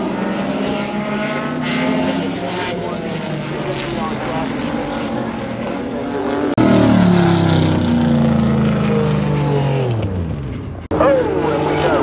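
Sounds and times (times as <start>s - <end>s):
race car engine passing: 0.0s - 12.0s.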